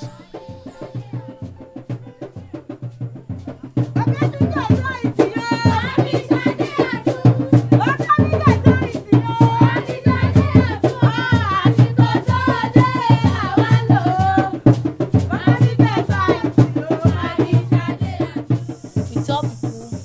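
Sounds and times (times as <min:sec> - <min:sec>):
hand drums beating: 0:00.0 - 0:20.0
voices singing: 0:00.0 - 0:20.0.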